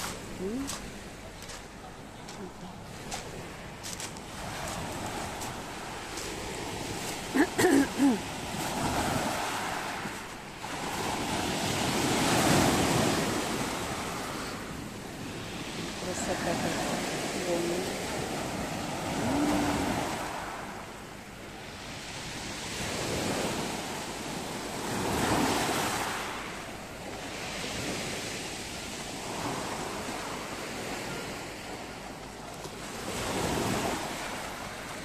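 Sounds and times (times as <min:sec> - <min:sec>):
waves breaking on pebble beach: 0:00.0 - 0:20.9, 0:21.7 - 0:35.0.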